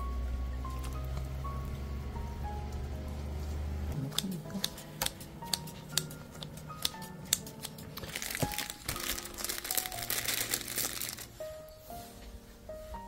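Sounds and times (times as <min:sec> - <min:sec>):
charcoal fire crackling: 0:00.0 - 0:11.8
soft background music: 0:00.0 - 0:13.0.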